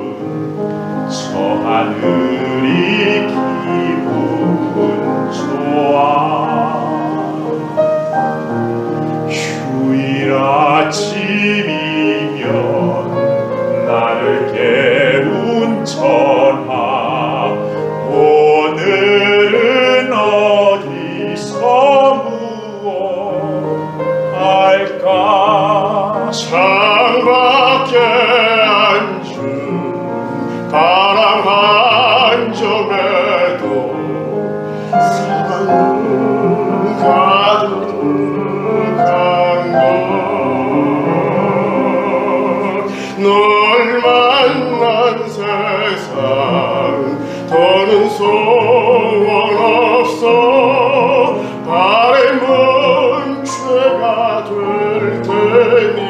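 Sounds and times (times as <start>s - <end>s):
man singing operatically: 0.0s - 56.0s
piano: 0.0s - 56.0s.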